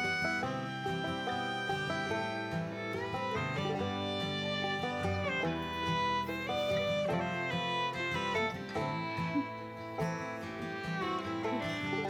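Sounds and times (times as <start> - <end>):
fiddle: 0.0 - 12.0
plucked guitar: 0.0 - 12.0.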